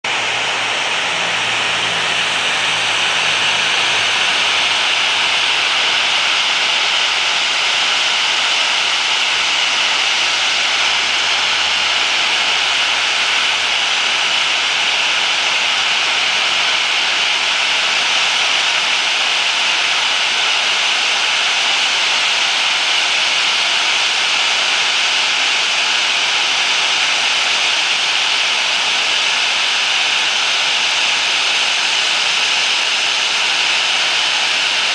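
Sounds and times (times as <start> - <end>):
jet engines idling: 0.0 - 34.9.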